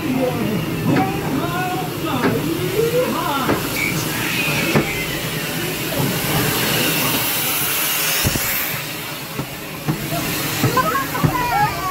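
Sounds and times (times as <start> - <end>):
smoke machine hissing: 1.8 - 11.8.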